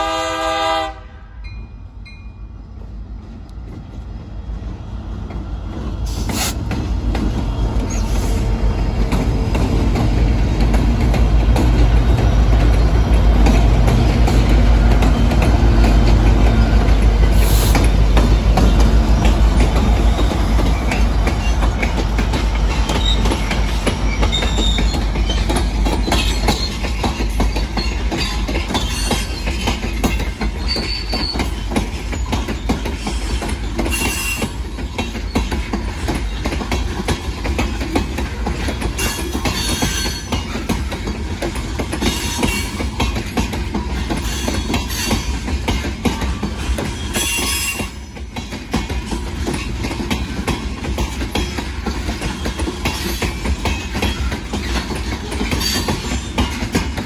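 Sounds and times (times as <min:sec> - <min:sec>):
diesel locomotive rumble: 0:00.0 - 0:57.0
train wheels rumbling and clattering: 0:01.8 - 0:57.0
train wheel squeals: 0:07.3 - 0:09.4, 0:11.3 - 0:57.0.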